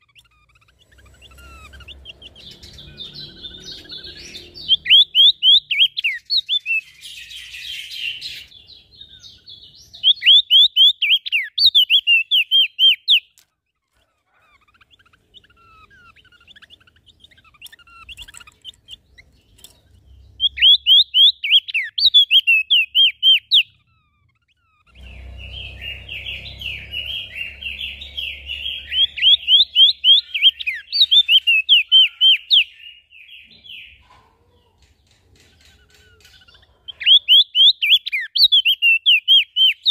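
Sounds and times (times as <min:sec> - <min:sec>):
chattering bird song: 0:00.0 - 0:39.9
songbirds singing whistled notes: 0:00.0 - 0:39.9.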